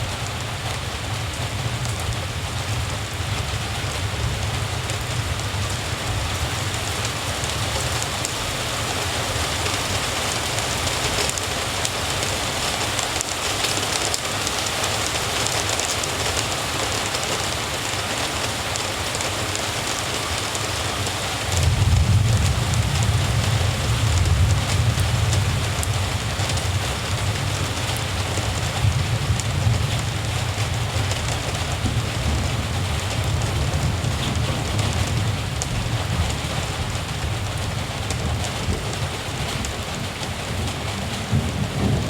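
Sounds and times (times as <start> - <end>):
rain on hard surfaces: 0.0 - 42.0.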